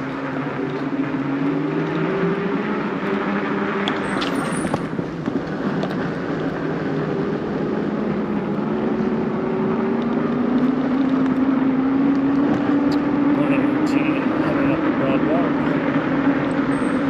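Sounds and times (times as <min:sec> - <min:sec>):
continuous rushing noise: 0:00.0 - 0:17.0.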